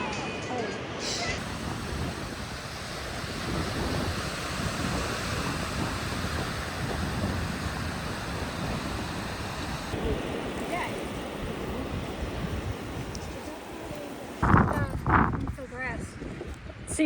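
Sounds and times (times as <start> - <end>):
ocean surf washing in: 0.8 - 16.0
wind rumble on microphone: 1.4 - 17.0.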